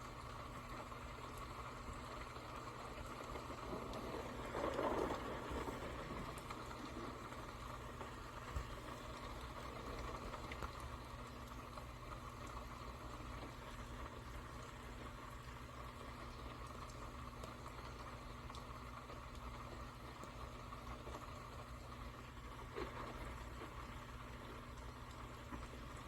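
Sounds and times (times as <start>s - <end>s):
faint hiss: 0.0s - 26.0s
low background hum: 0.0s - 26.0s
faint ticks: 0.1s - 26.0s.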